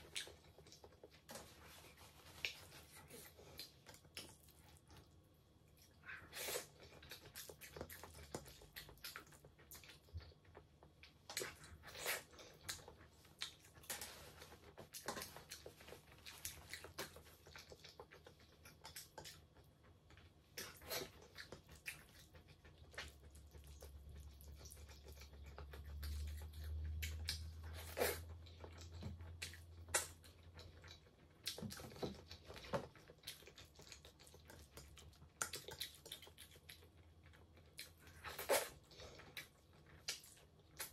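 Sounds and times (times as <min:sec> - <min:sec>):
chewing with mouth smacks: 0:00.0 - 0:40.9.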